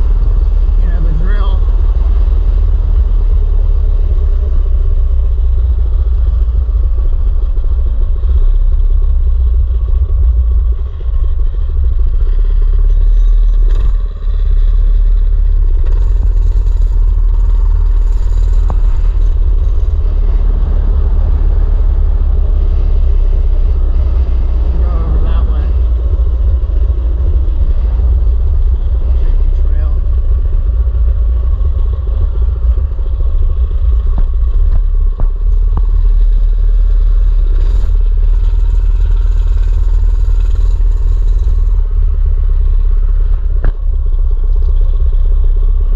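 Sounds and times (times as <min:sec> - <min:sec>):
mini bike engine running: 0:00.0 - 0:45.9.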